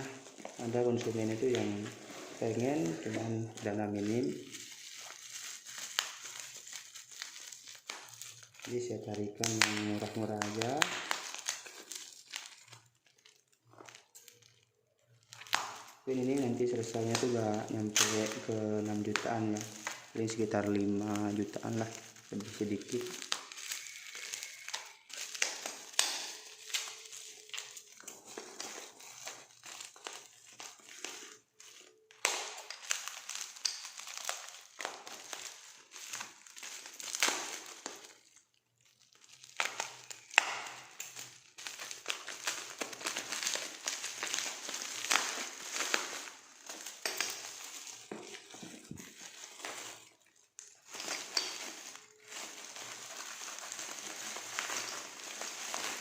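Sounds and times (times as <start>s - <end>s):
parcel wrapping tearing: 0.0s - 56.0s.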